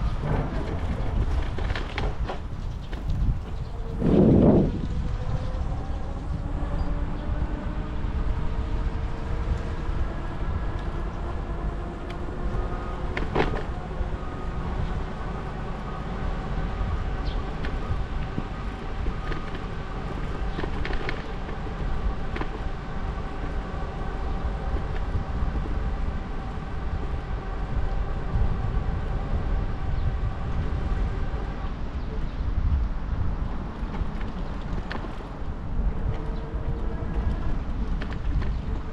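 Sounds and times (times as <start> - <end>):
wind and tyre rumble: 0.0 - 38.9.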